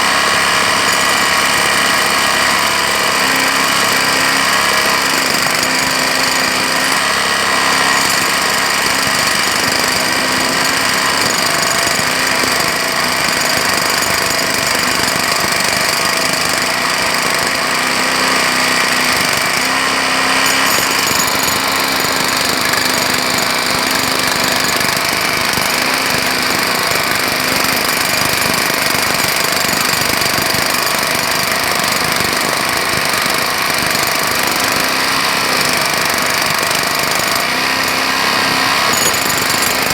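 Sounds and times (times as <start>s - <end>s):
jackhammer hammering: 0.0s - 39.9s.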